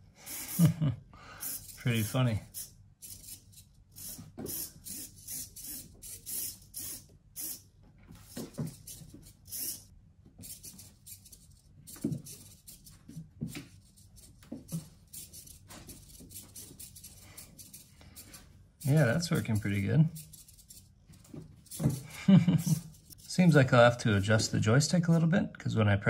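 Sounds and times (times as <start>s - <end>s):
small servo motors whirring: 0.2s - 0.7s, 1.4s - 23.3s.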